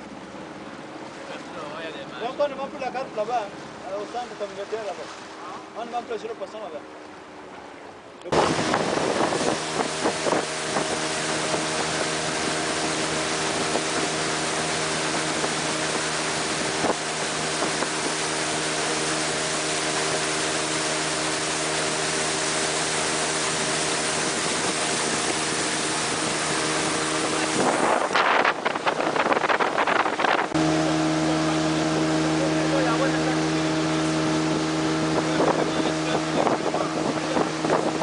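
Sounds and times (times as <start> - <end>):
motorboat engine running: 0.0 - 38.0
rush of wind and water: 0.0 - 38.0.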